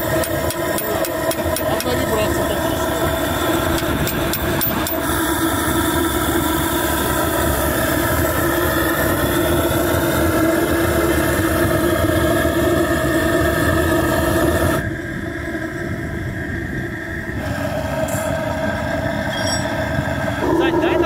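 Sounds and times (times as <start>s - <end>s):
steam engine droning: 0.0s - 21.0s.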